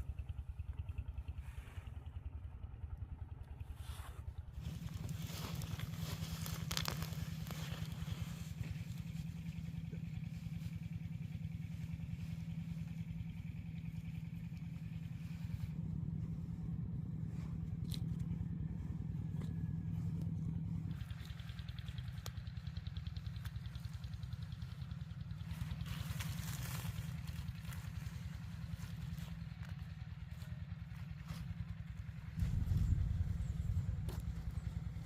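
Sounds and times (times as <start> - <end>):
small engine running: 0.0 - 35.0.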